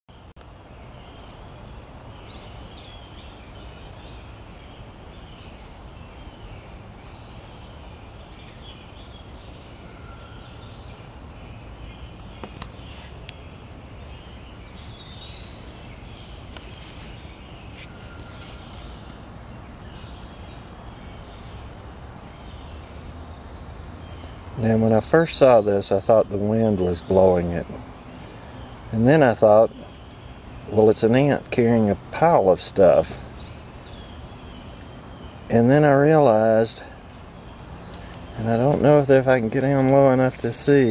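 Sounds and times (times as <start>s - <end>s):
birds chirping: 0.1s - 40.9s
low background noise: 0.1s - 40.9s.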